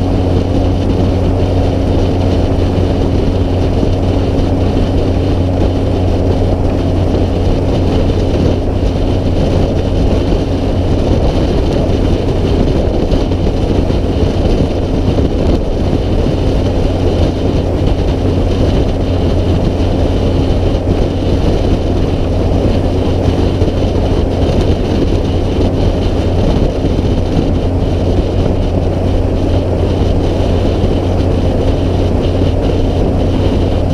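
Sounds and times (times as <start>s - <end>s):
diesel truck exhaust drone: 0.0s - 33.9s.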